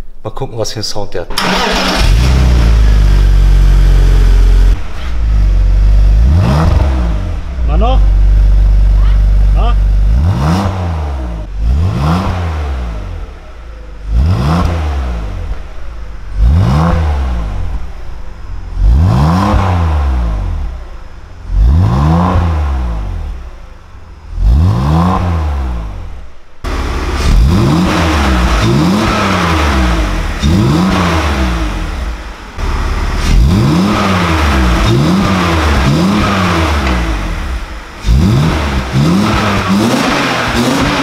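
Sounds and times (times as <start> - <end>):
car engine revving in throttle blips: 1.4 - 41.0.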